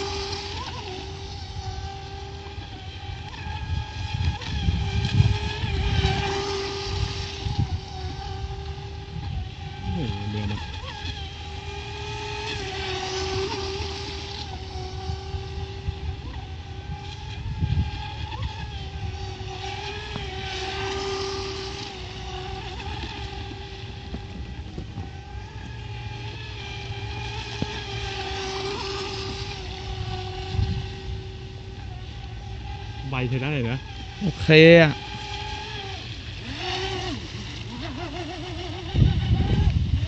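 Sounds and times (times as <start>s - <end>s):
rc boat motor whining: 0.0s - 40.0s.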